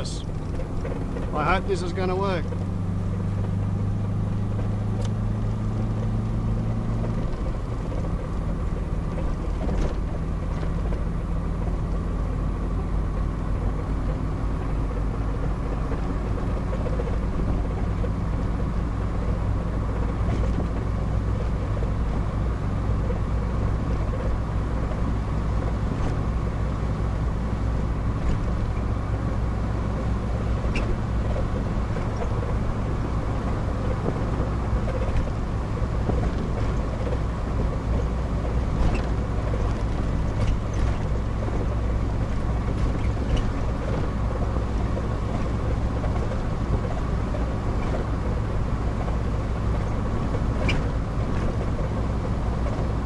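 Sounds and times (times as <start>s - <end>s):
car engine hum: 0.0s - 53.0s
road noise: 0.0s - 53.0s.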